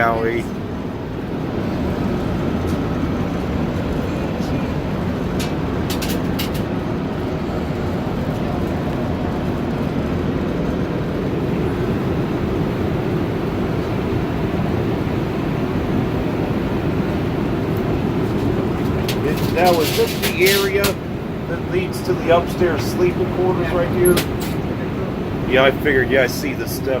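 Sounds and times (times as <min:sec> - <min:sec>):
airliner cabin roar: 0:00.0 - 0:27.0.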